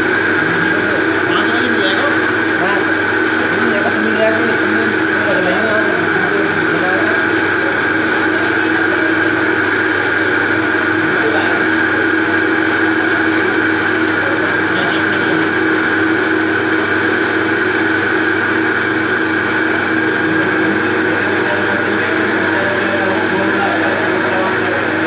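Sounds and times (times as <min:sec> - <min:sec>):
lathe motor hum and whine: 0:00.0 - 0:25.0.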